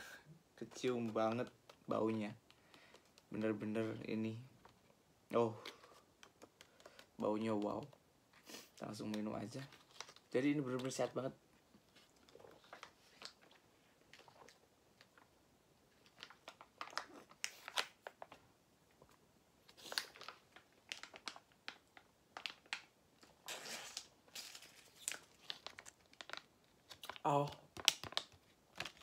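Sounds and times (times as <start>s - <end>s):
plastic juice pouch crinkling: 0.6s - 29.0s.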